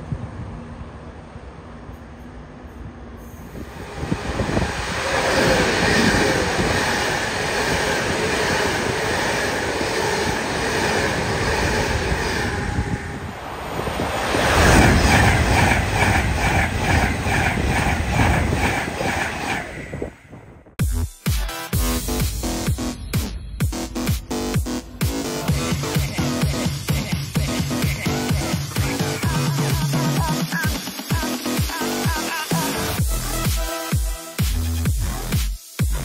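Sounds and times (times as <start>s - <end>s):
train passing with whine: 0.0s - 20.8s, 21.8s - 33.0s.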